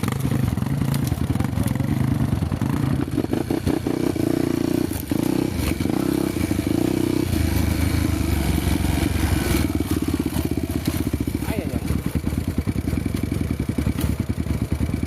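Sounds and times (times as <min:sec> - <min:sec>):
motorcycle clattering over rough ground: 0:00.0 - 0:15.0
motorcycle engine under load: 0:00.0 - 0:15.0.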